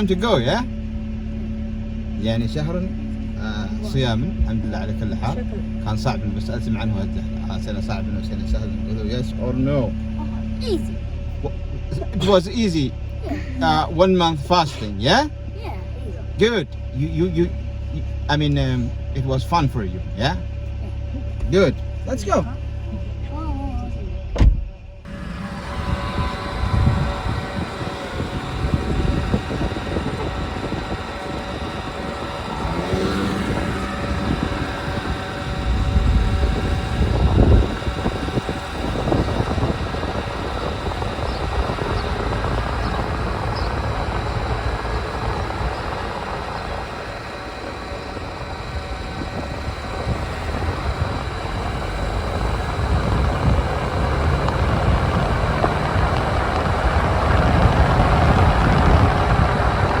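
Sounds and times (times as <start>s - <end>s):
car engine and road rumble: 0.0s - 60.0s.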